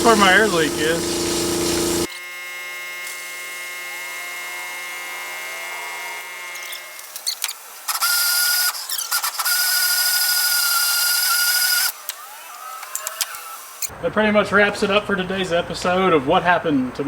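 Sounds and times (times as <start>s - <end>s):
power drill whining: 0.0s - 13.9s
machine hum: 0.0s - 14.1s.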